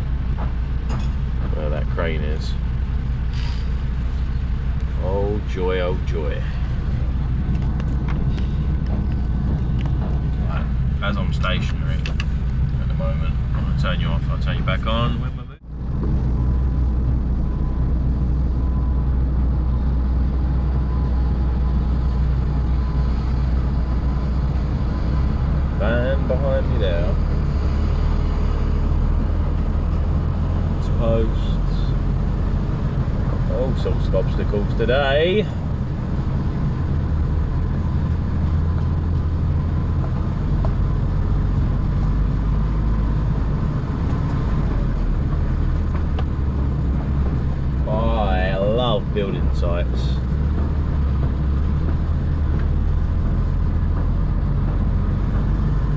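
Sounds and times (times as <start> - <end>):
lorry diesel engine rumble: 0.0 - 55.9.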